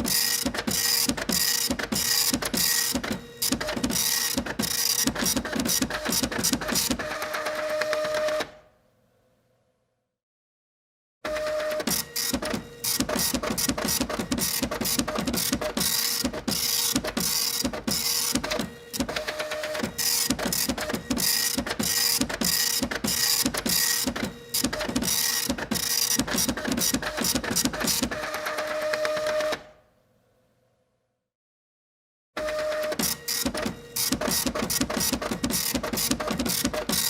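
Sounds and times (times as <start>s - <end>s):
printer clicking and rattling: 0.0s - 8.4s, 11.3s - 29.6s, 32.4s - 37.0s
printer whine: 0.0s - 8.5s, 11.3s - 29.7s, 32.4s - 37.0s.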